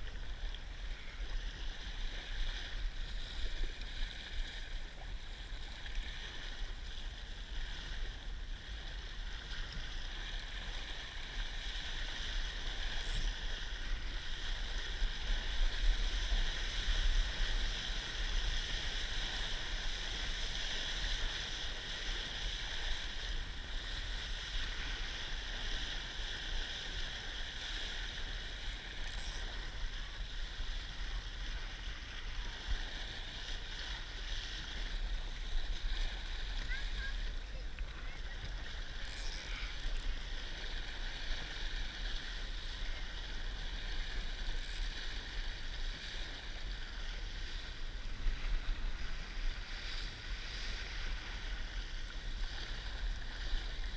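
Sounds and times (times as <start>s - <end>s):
water rushing along a hull: 0.0s - 53.9s.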